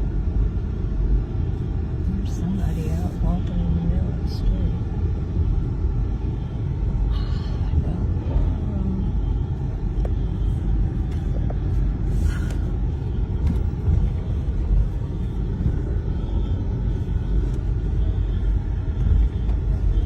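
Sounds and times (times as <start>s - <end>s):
low rumble of moving car: 0.0s - 20.0s.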